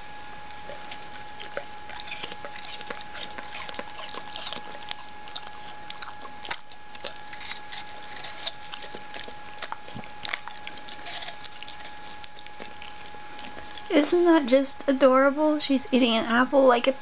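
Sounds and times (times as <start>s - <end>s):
dog chewing apple: 0.0s - 15.0s.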